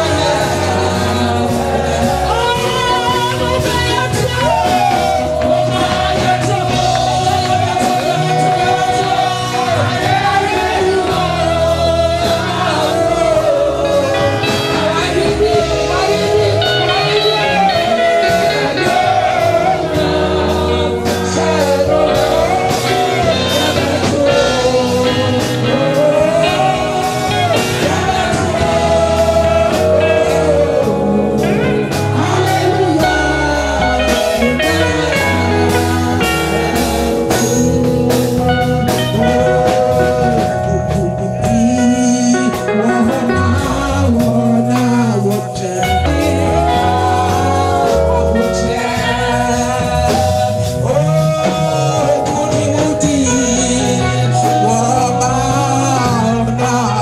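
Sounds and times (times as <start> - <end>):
gospel band playing: 0.0 - 57.0
person singing: 0.0 - 57.0.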